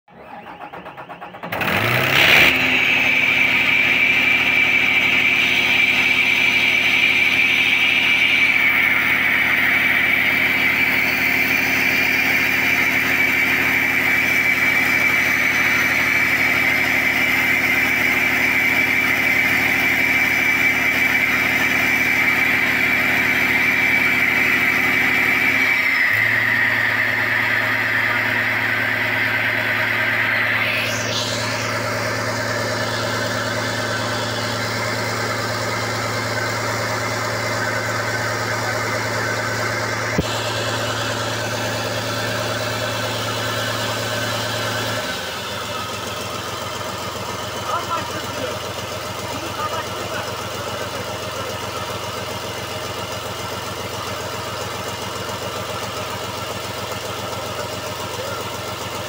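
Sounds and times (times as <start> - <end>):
diesel engine starting and running: 0.0 - 59.0
high engine whine: 0.0 - 59.0.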